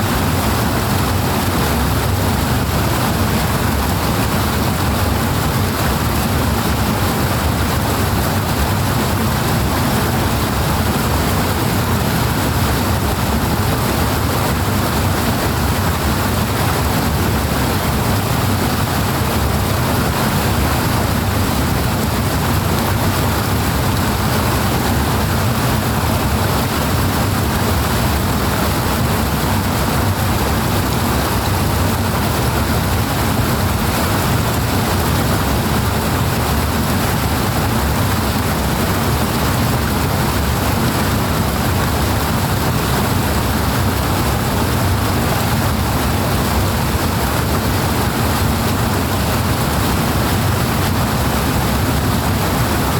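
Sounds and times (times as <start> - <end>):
fast-flowing water rushing: 0.0 - 52.9.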